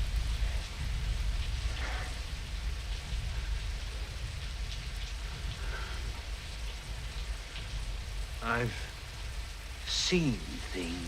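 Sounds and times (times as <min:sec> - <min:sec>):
deep low rumble: 0:00.0 - 0:09.8
steady rain falling: 0:00.0 - 0:11.0.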